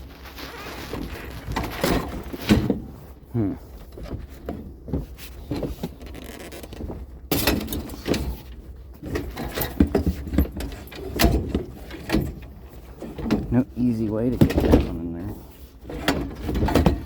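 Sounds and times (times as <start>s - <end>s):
items knocking and rattling: 0.9s - 2.9s, 3.8s - 13.6s, 14.3s - 17.0s.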